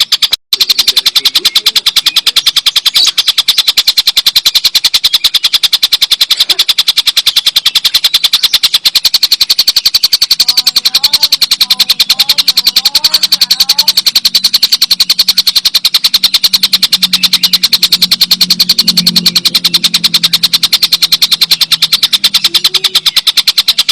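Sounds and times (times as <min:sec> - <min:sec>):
faint bird chirps: 0:00.0 - 0:23.9.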